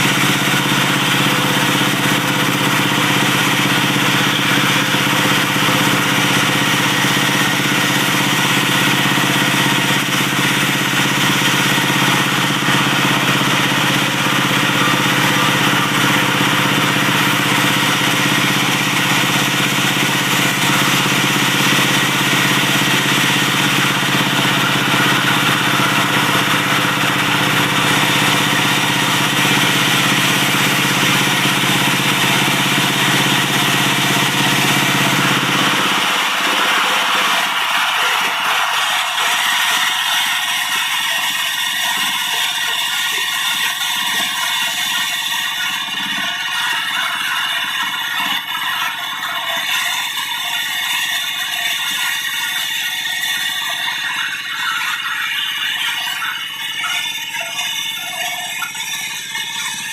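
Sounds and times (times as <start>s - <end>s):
wood-sawing machine noise: 0.0s - 59.9s.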